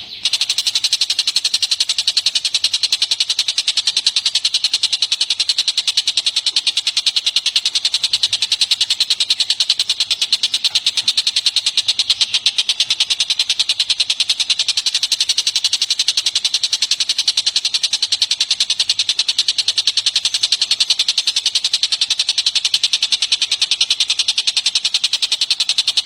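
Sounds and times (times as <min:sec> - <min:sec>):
bird rattling call: 0:00.0 - 0:26.0.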